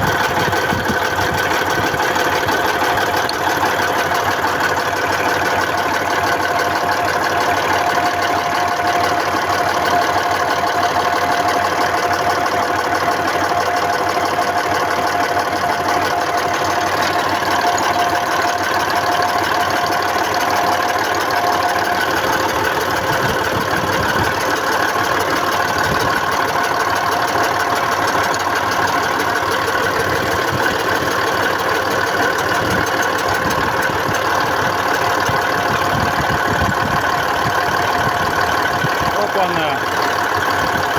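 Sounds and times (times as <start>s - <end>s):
diesel engine running with knock: 0.0s - 40.9s.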